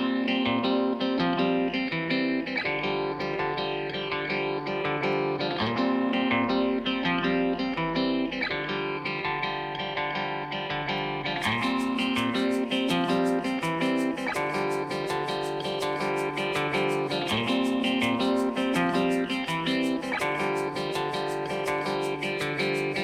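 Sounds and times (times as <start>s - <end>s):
guitar music: 0.0s - 23.0s.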